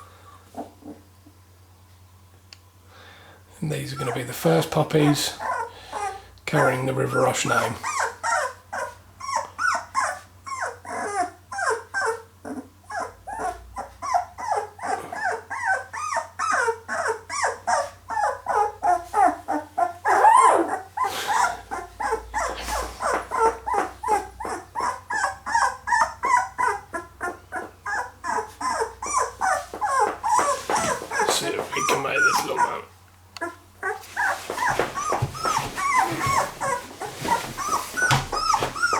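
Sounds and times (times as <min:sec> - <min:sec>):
puppies whimpering and squeaking: 0:03.6 - 0:38.9.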